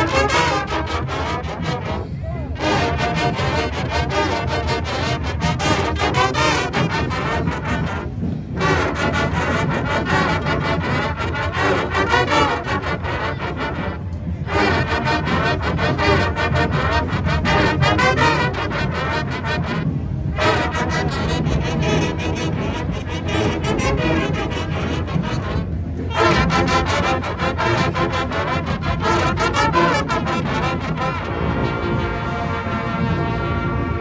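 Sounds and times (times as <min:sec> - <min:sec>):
marching band brass: 0:00.0 - 0:34.0
marching drums: 0:02.6 - 0:34.0.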